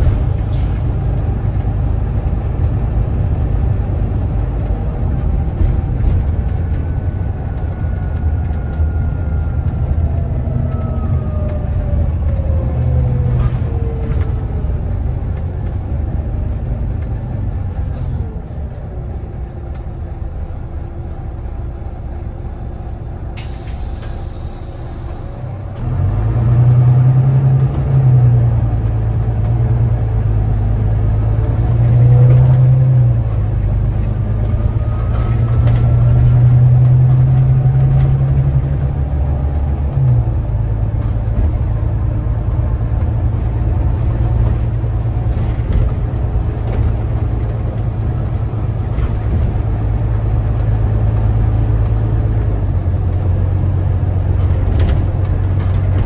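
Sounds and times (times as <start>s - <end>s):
bus engine: 0.0s - 56.0s
bus whine: 0.0s - 56.0s.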